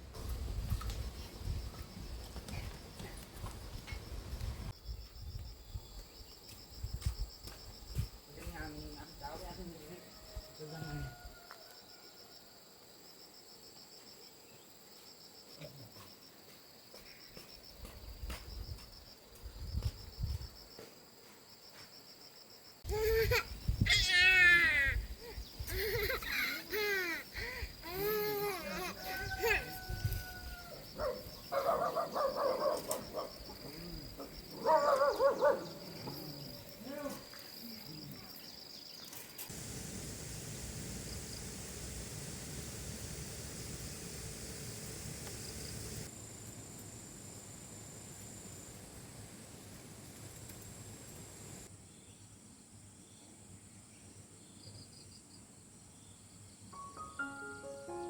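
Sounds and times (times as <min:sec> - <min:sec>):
crickets chirping: 0:00.2 - 0:52.2
insects trilling: 0:00.6 - 0:52.2.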